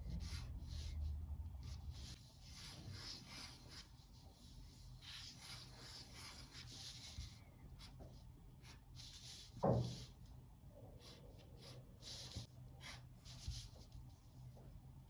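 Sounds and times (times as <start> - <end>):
pencil scratching on paper: 0.0 - 10.3, 11.0 - 14.1.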